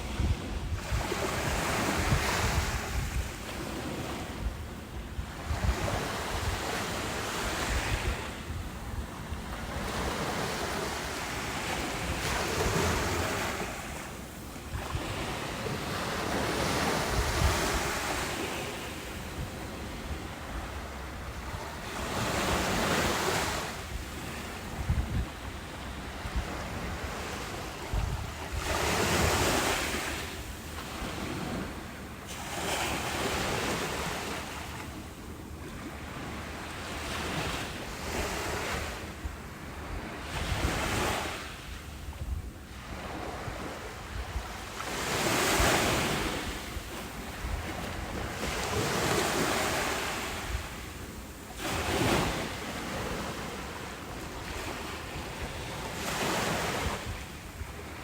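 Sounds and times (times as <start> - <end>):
wind buffeting microphone: 0.0 - 31.9, 37.2 - 53.8
ocean waves breaking: 0.0 - 41.7, 42.7 - 58.0.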